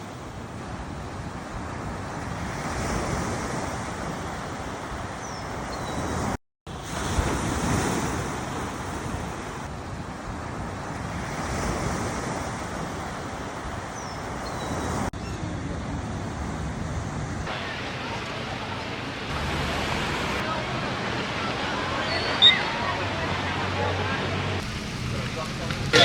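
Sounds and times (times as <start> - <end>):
ocean surf washing onto beach: 0.0 - 26.0.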